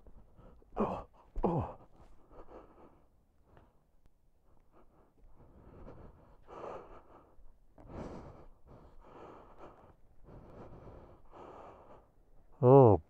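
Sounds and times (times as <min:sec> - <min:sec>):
person breathing faintly: 0:00.0 - 0:12.6.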